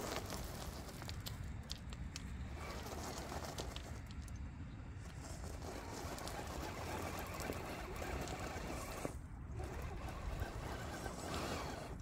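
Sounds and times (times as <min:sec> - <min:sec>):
toy car tyres crunching gravel: 0:00.0 - 0:12.0
wind rumbling on microphone: 0:00.0 - 0:12.0.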